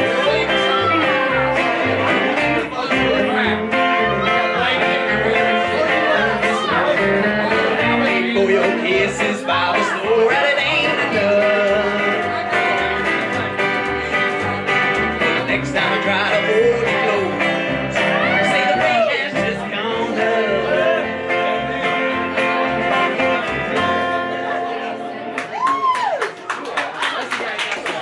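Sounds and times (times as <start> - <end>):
upright bass plucking: 0.0 - 25.3
live country band music: 0.0 - 25.9.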